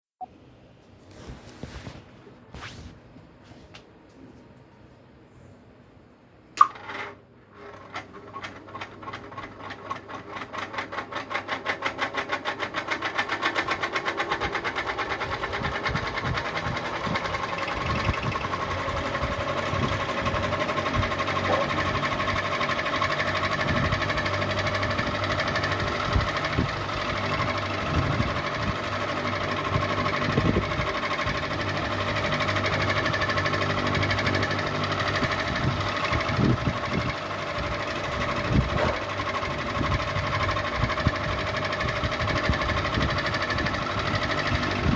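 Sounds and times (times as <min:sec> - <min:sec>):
ceiling fan mechanical running noise: 0:00.2 - 0:44.9
ceiling fan rhythmic knocking: 0:08.3 - 0:44.9.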